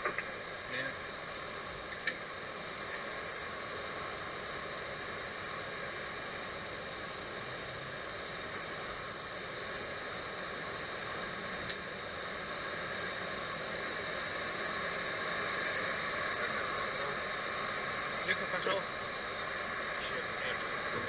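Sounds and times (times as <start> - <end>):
aircraft engine and airflow hiss: 0.0 - 21.0.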